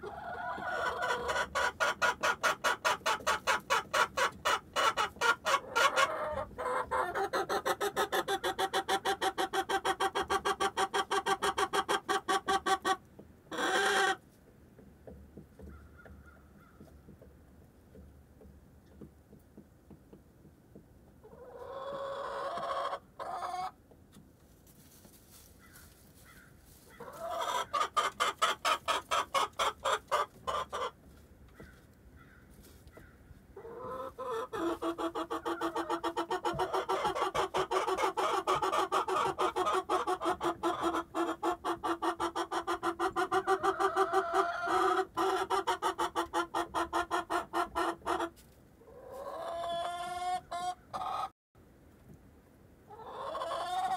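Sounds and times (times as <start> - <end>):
hens clucking: 0.0 - 19.0, 21.1 - 23.9, 24.8 - 31.9, 32.6 - 51.3, 52.9 - 53.9.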